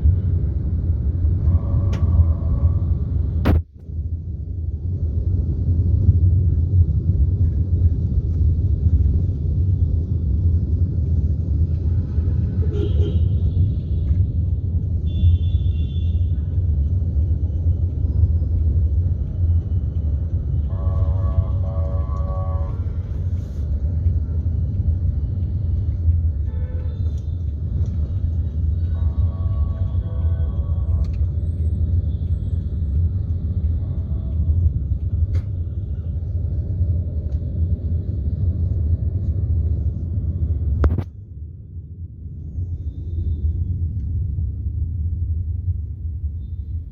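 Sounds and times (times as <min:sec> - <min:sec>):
vehicle rumble from on board: 0:00.0 - 0:46.9.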